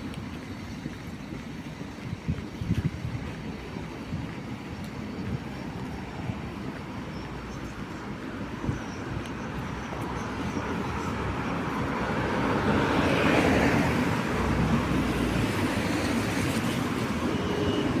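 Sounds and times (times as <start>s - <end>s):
tyre hiss on wet street: 3.4s - 18.0s.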